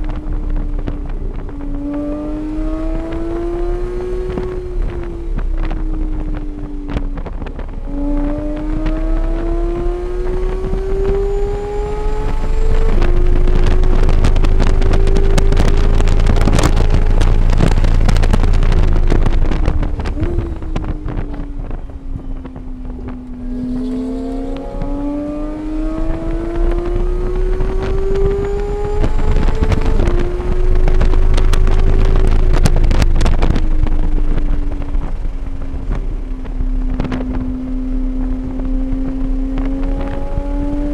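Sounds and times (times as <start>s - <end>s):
race car engine at full throttle: 0.0s - 40.9s
wind buffeting microphone: 0.0s - 40.9s.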